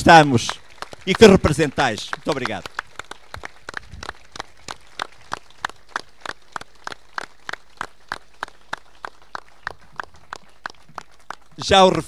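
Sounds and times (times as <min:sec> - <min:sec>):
audience clapping in unison: 0:00.0 - 0:12.0.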